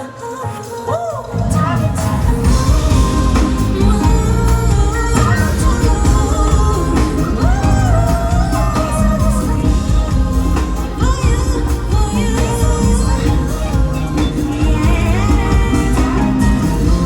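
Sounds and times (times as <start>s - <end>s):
woman singing: 0.0s - 17.0s
backing band with drums and bass: 0.6s - 17.0s.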